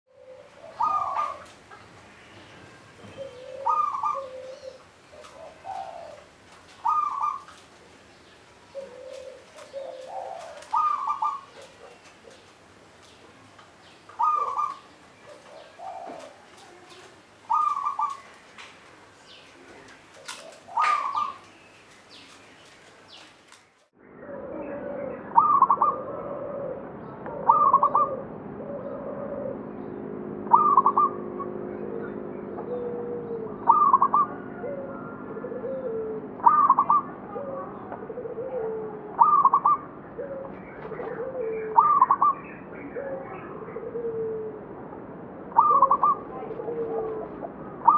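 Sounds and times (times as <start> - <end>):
doves cooing: 0.1 - 44.8, 45.5 - 47.9.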